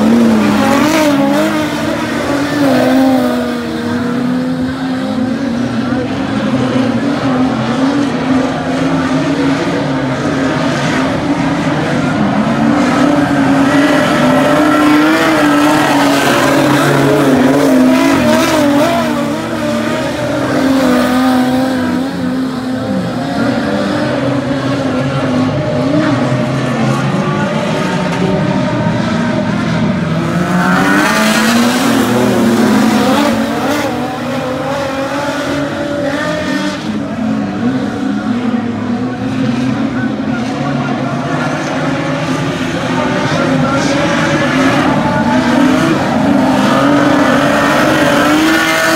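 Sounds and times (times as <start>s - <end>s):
race car engines: 0.0s - 48.9s.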